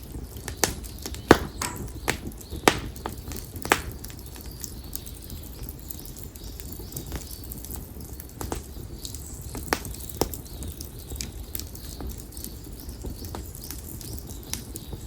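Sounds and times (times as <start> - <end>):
faint birds chirping: 0.0 - 15.0
firewood crackling and popping: 0.0 - 15.0.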